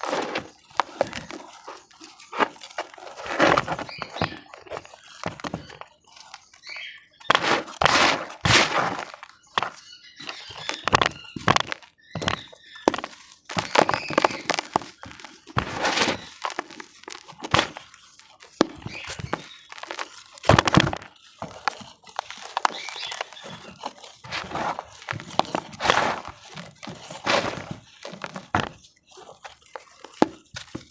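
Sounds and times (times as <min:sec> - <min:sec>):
cement cracking and crunching: 0:00.0 - 0:30.9.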